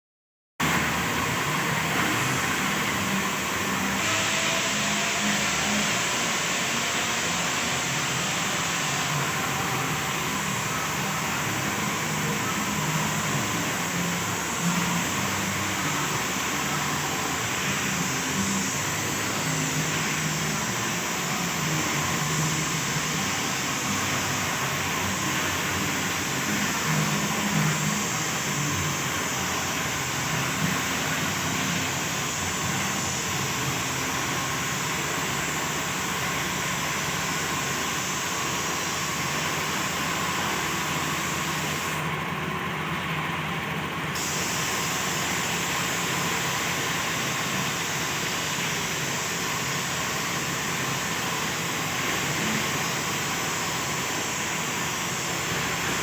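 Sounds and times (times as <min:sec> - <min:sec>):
spray hiss: 0:00.7 - 0:42.1, 0:44.2 - 0:56.0
motor running: 0:00.8 - 0:56.0.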